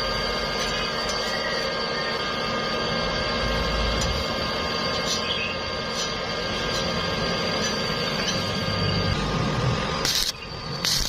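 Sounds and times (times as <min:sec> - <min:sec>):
faint high steady tones: 0:00.0 - 0:11.0
machine hum: 0:00.0 - 0:11.0.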